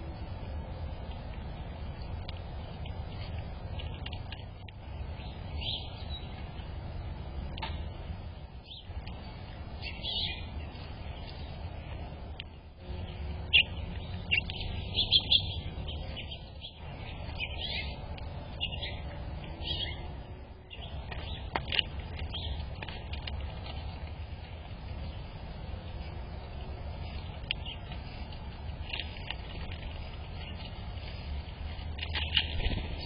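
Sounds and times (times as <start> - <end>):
low background rumble: 0.0 - 33.0
small birds chirping: 1.0 - 33.0.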